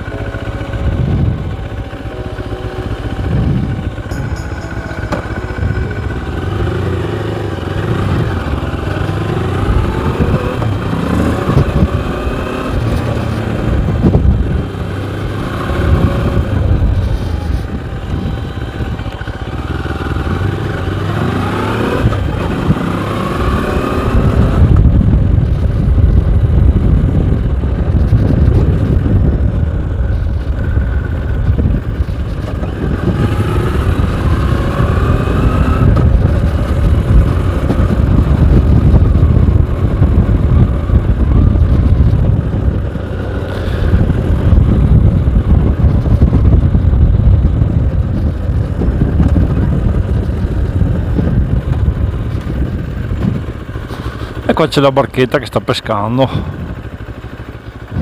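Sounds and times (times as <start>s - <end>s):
motorcycle engine accelerating: 0.0s - 58.0s
wind rumble on microphone: 0.0s - 58.0s.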